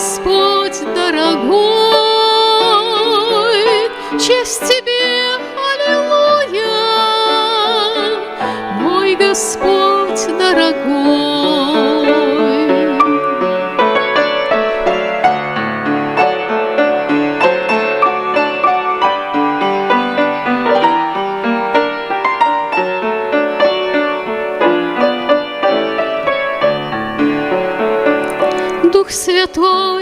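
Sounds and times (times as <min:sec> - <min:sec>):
piano melody over chords: 0:00.0 - 0:30.0.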